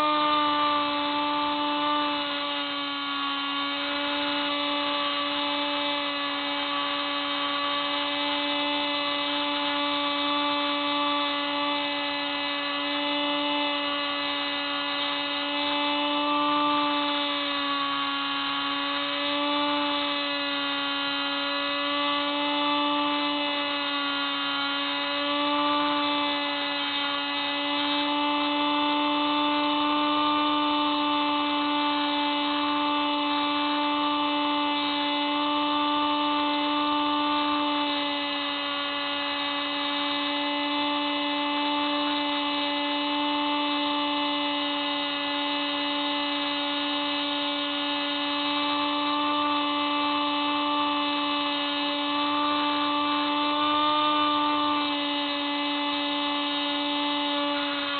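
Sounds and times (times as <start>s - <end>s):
model plane motor whining: 0.0s - 57.9s.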